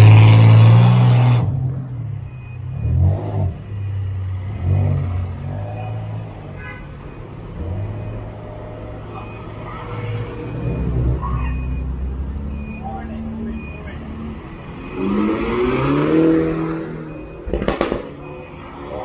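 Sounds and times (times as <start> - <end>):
car engine revving: 0.0 - 6.5, 7.4 - 19.0.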